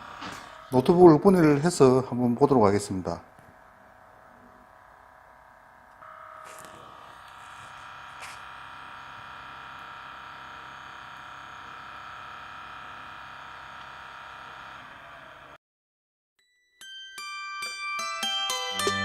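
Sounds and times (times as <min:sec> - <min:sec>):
laptop fan whining: 0:00.0 - 0:15.6.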